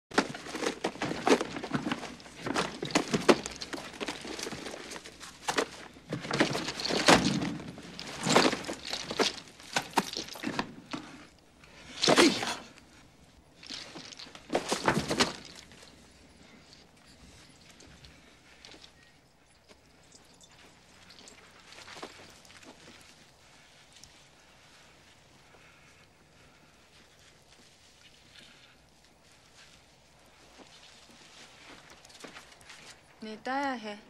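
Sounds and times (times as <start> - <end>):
rummaging through belongings: 0.1 - 33.7.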